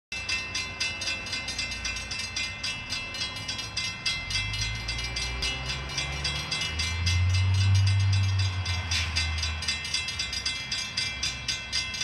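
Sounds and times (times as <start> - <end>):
railroad crossing bell ringing: 0.1 - 12.0.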